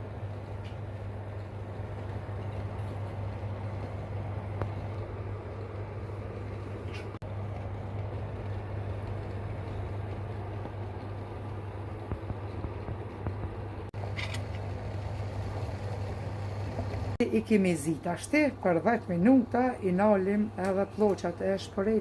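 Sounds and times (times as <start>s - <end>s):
low hum: 0.0s - 21.9s
water boiling in metal teapots: 0.0s - 22.0s.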